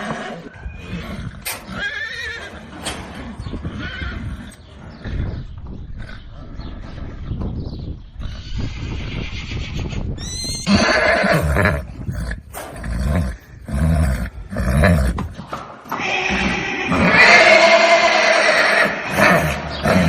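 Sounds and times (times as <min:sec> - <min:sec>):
horse neighing: 0:00.0 - 0:04.6, 0:08.2 - 0:20.0.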